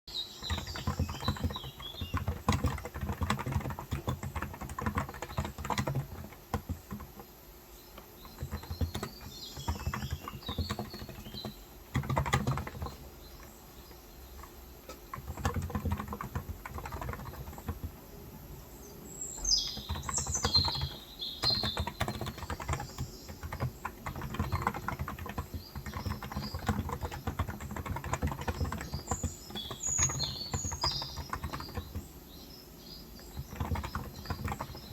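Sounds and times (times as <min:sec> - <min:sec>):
birds chirping: 0:00.1 - 0:34.9
typing on keyboard: 0:00.4 - 0:07.3, 0:08.0 - 0:18.0, 0:19.4 - 0:32.2, 0:33.2 - 0:34.9.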